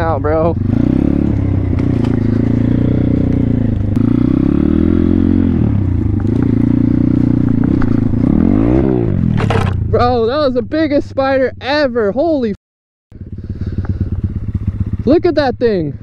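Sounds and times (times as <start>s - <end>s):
motorbike engine revving: 0.0s - 11.9s, 13.1s - 15.8s.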